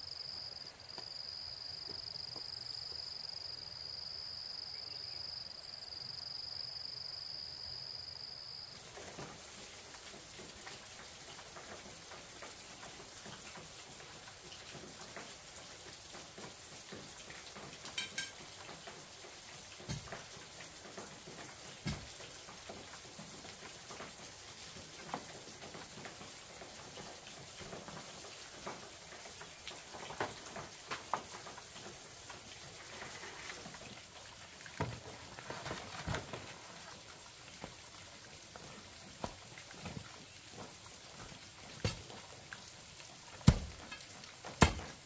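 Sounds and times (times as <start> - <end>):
outdoor hiss: 0.0 - 45.0.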